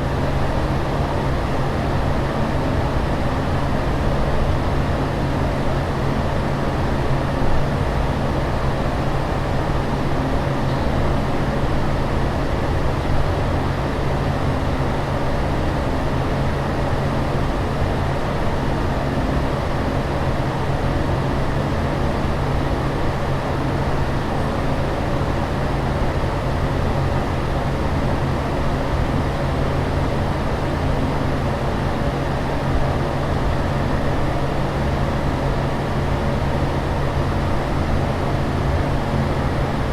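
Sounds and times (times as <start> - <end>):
fan and air noise: 0.0 - 39.9.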